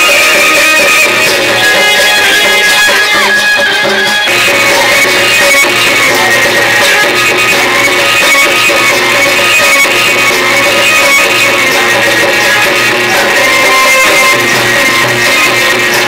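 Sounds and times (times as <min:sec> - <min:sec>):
hand drum rhythm: 0:00.0 - 0:16.0
sustained melody line: 0:00.0 - 0:16.0.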